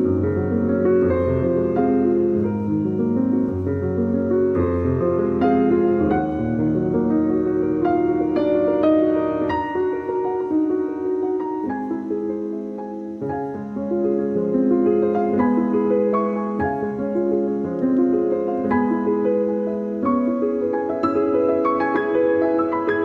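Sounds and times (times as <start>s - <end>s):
calm piano music: 0.0s - 23.0s.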